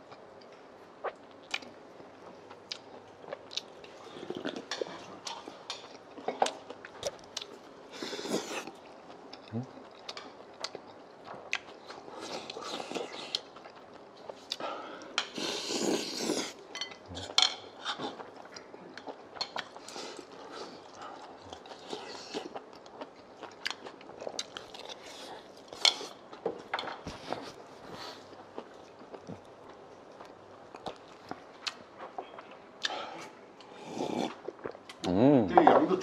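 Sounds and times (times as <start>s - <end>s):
chewing: 0.1s - 35.2s.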